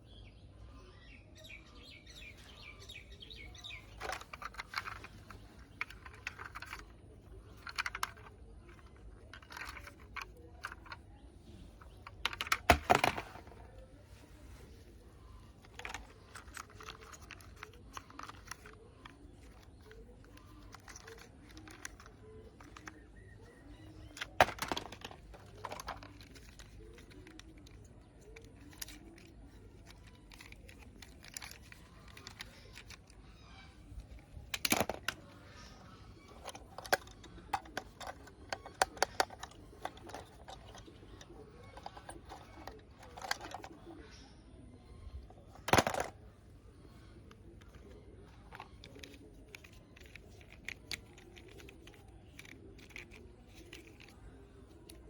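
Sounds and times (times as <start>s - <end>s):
plastic toys clattering: 2.1s - 55.0s
plastic toys clicking and knocking: 2.1s - 55.0s.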